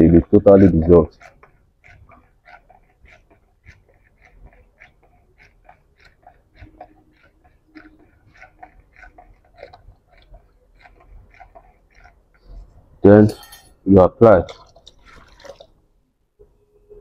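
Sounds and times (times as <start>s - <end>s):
fingers swishing water: 0.0s - 16.0s.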